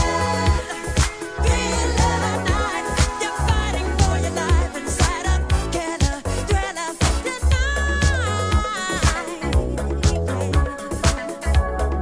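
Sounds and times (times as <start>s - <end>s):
funky disco music: 0.0s - 12.0s.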